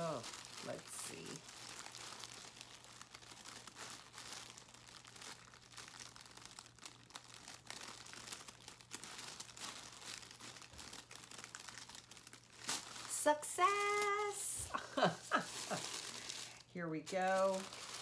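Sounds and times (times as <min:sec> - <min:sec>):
tissue paper crinkling: 0:00.0 - 0:18.0.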